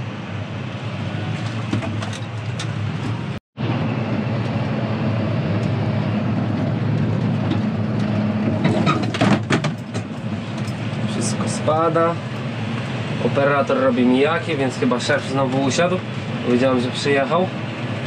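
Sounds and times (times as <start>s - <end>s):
tractor engine droning: 0.1s - 18.0s.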